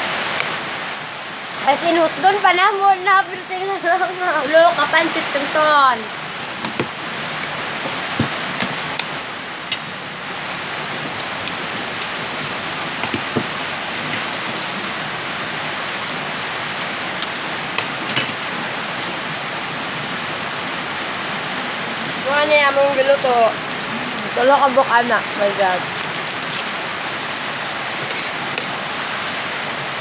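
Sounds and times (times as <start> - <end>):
rain on a metal roof: 0.0 - 30.0.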